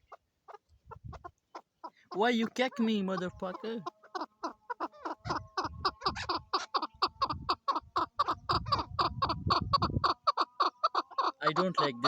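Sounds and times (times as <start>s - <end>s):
partridge clucking calls: 0.0s - 12.0s.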